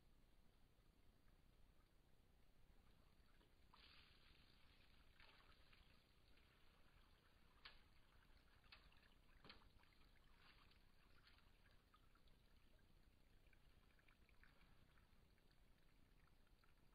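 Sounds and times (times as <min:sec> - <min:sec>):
animal lapping water: 0:02.7 - 0:16.9.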